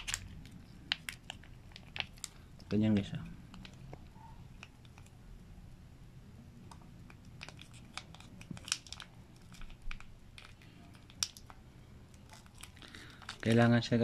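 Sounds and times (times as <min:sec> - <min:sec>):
plastic tube crinkling: 0:00.0 - 0:05.2, 0:06.7 - 0:13.7.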